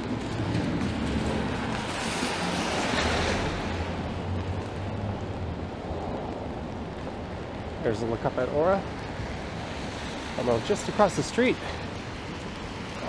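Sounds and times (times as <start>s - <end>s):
tyres hissing on wet pavement: 0.0s - 13.0s.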